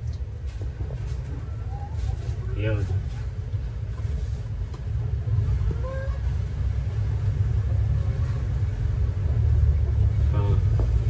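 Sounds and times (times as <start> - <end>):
low machine rumble: 0.0 - 11.0.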